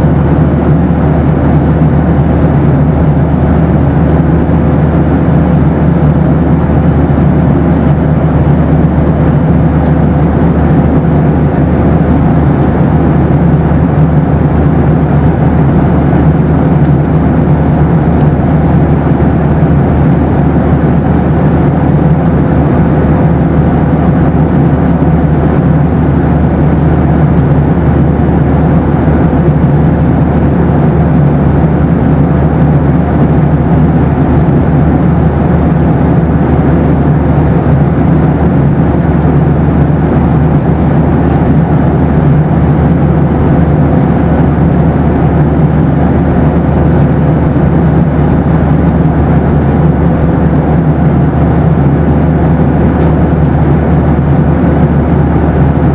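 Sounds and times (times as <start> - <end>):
airplane cabin engine noise: 0.0 - 55.9
faint steady hum: 0.0 - 55.9.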